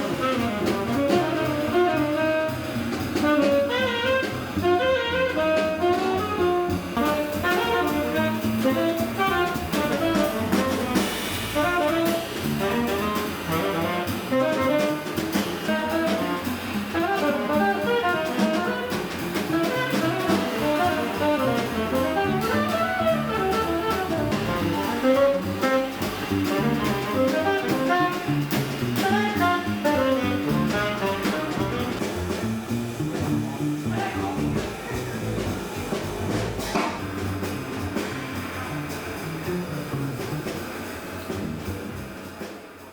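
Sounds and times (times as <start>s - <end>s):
drum kit: 0.0s - 42.9s
jazz saxophone: 0.0s - 42.9s.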